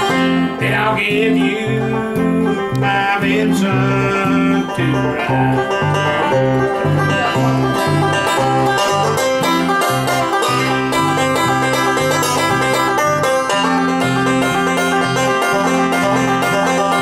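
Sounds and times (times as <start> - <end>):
acoustic guitar: 0.0 - 17.0
banjo picking fast notes: 0.0 - 17.0
bass playing low notes: 0.0 - 17.0.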